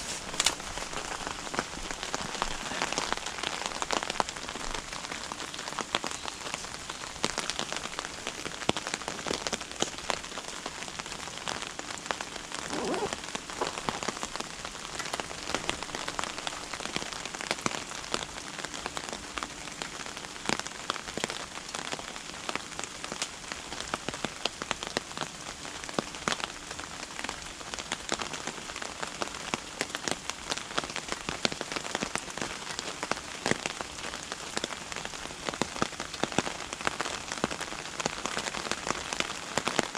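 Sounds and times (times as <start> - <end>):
rain drops ticking on surface: 0.0 - 39.9.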